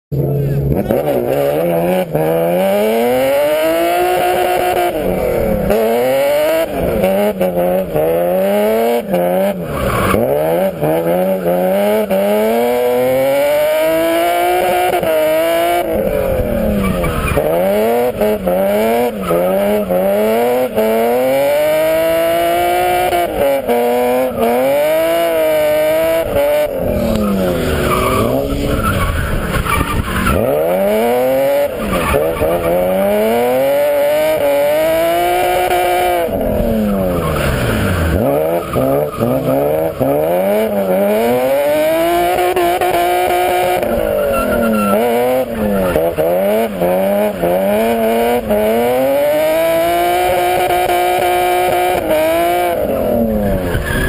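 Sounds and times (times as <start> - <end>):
tyres skidding and squealing: 0.1 - 54.0
car engine revving hard: 0.2 - 54.0.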